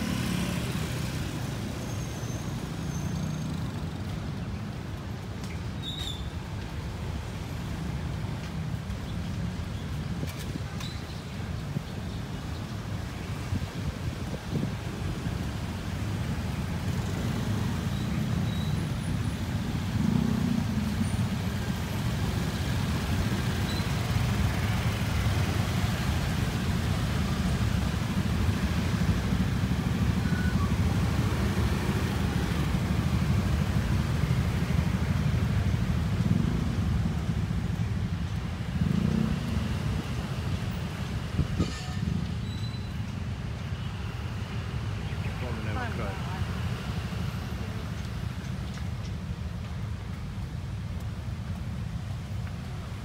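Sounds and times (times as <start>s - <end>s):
scooter engines passing: 0.0s - 53.0s.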